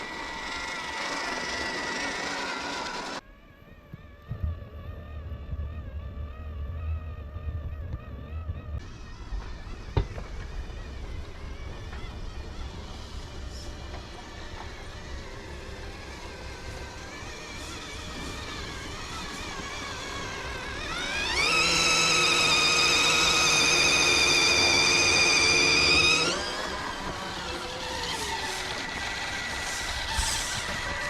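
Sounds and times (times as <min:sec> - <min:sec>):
electric motor and gears whining: 0:00.0 - 0:31.0.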